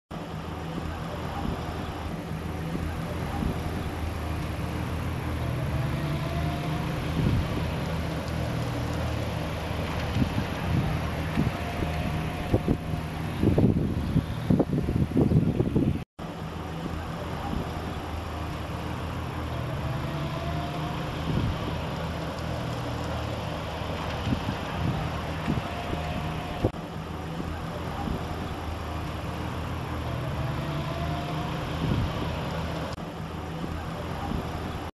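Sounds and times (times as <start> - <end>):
outdoor background noise: 0.1 - 34.9
vehicle engine idling: 0.1 - 34.9.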